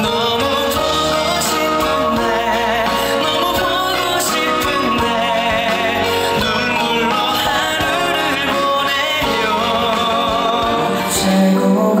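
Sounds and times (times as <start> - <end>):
instrumental accompaniment: 0.0 - 12.0
man singing into a microphone: 0.0 - 12.0.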